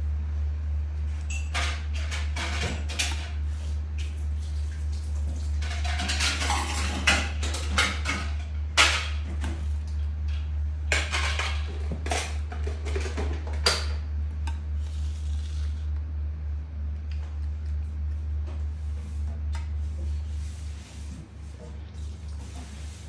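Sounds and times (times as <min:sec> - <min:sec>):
electric fan hum: 0:00.0 - 0:23.0.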